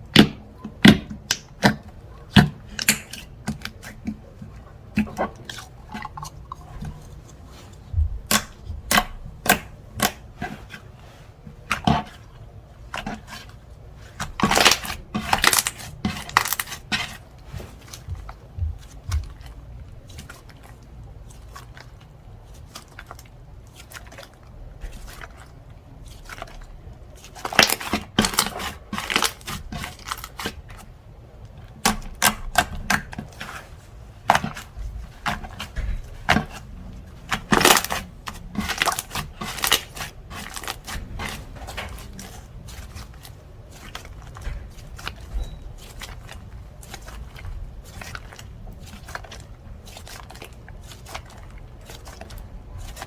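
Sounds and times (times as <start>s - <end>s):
slime squishing with clicking pops: 0.0s - 10.8s, 17.8s - 53.0s.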